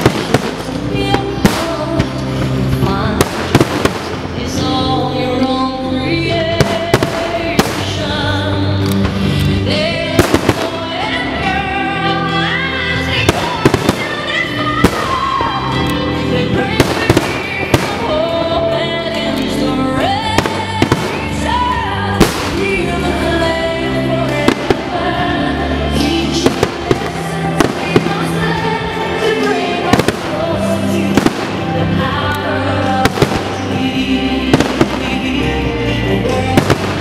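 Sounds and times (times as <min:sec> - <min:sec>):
fireworks bursting: 0:00.0 - 0:04.8, 0:06.4 - 0:11.6, 0:12.5 - 0:37.0
music playing: 0:00.0 - 0:37.0.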